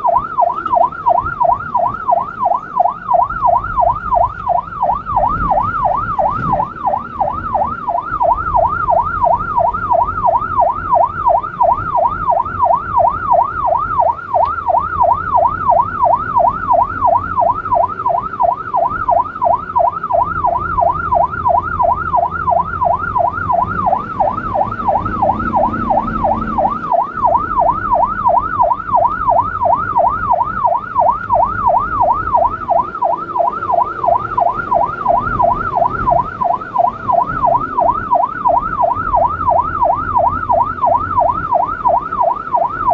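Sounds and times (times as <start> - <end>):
emergency siren yelping: 0.0 - 42.9
engine and road noise: 0.0 - 42.9.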